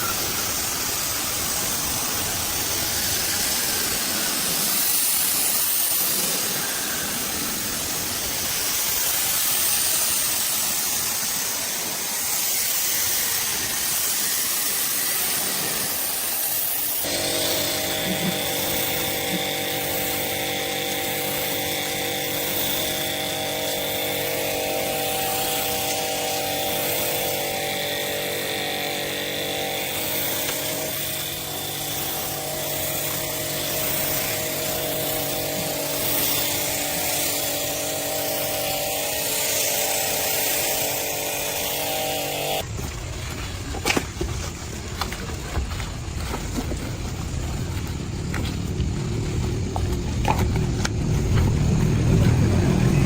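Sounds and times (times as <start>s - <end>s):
motor humming steadily: 0.0s - 42.8s
steady hiss: 0.0s - 53.0s.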